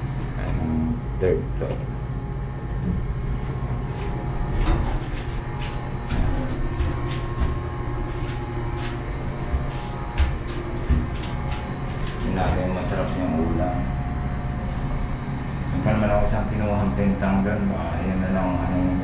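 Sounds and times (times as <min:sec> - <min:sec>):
elevator rumble and hum: 0:00.0 - 0:19.0.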